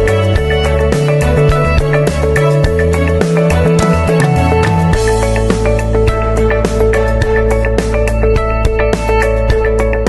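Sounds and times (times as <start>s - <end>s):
background music with plucked guitar: 0.0s - 10.0s.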